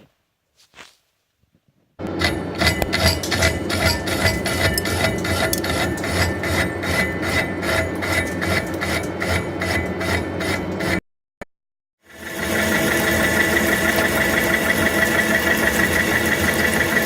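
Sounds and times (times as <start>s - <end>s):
lathe tool scraping workpiece: 2.0s - 11.0s, 12.1s - 17.0s
low motor hum: 2.0s - 11.0s, 12.1s - 17.0s.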